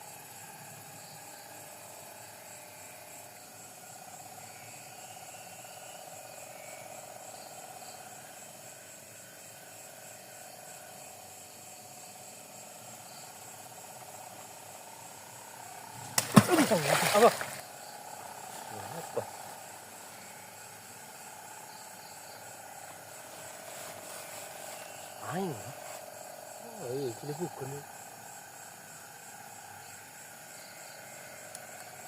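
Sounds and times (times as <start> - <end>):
high insect pulsing: 0.0 - 32.0
insects trilling: 0.0 - 32.0.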